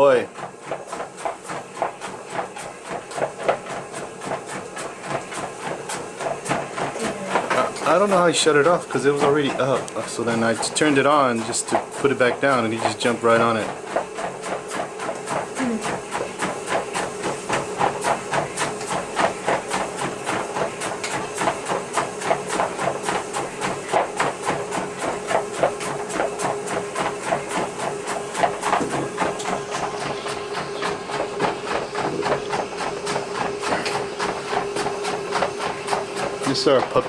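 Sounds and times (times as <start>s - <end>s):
dog paw footfalls on treadmill: 0.0s - 37.0s
treadmill motor hum: 0.0s - 37.0s.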